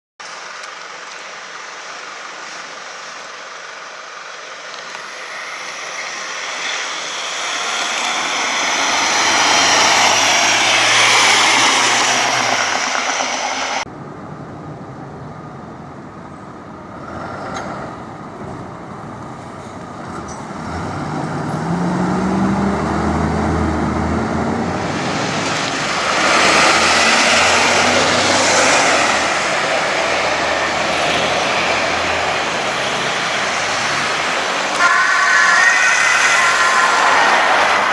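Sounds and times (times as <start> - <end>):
heavy road-vehicle noise: 0.2 - 37.9
fire engine accelerating past: 3.6 - 37.9.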